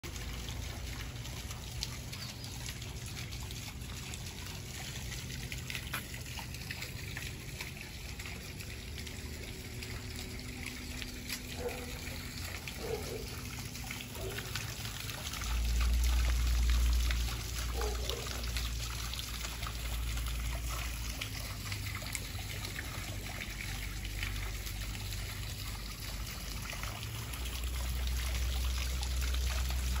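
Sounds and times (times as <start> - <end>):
fountain water splashing: 0.0 - 30.0.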